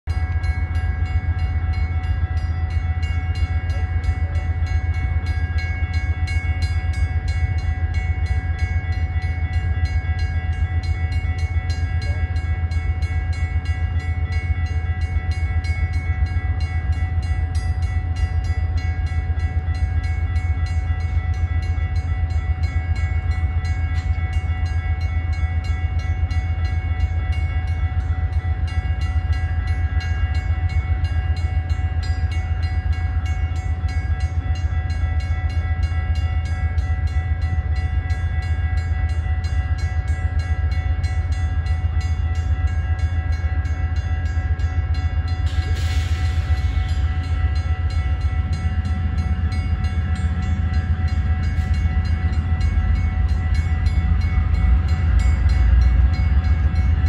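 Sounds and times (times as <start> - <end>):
diesel locomotive engine running: 0.0 - 57.0
steady high tones: 0.1 - 57.0.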